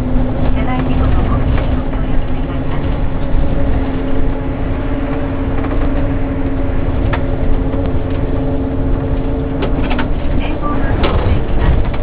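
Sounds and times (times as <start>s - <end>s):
bus cabin rumble: 0.0s - 12.0s.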